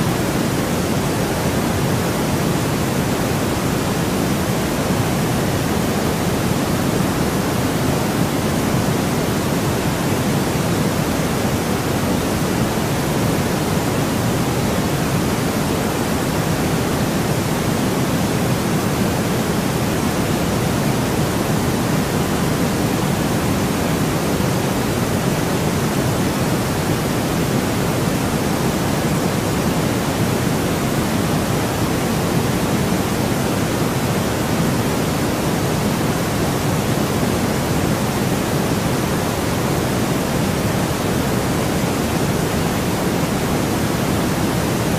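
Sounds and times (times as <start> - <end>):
white noise hiss: 0.0 - 44.9.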